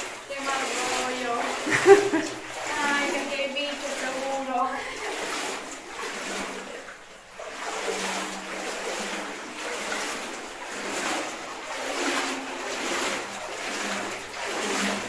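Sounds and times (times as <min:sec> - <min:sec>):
water splashing around wading feet: 0:00.0 - 0:15.0.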